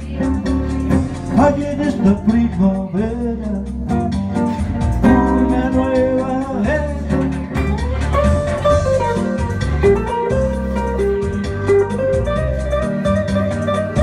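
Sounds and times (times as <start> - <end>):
bass accompaniment: 0.0 - 14.0
electric guitar melody: 0.0 - 14.0.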